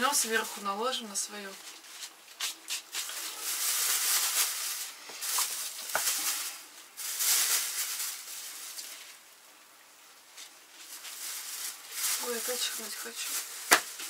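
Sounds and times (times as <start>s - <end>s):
plastic bag crinkling: 0.0s - 9.3s, 10.4s - 14.0s.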